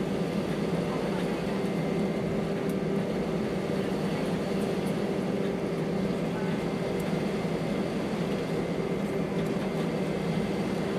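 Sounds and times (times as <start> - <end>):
jet engines at low thrust: 0.0 - 10.9.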